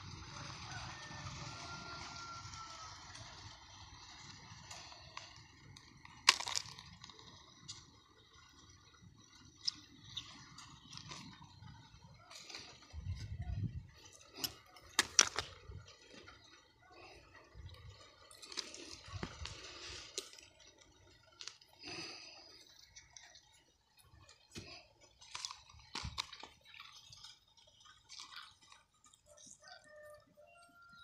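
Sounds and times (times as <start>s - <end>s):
scraping over gritty soil: 0.0s - 29.8s.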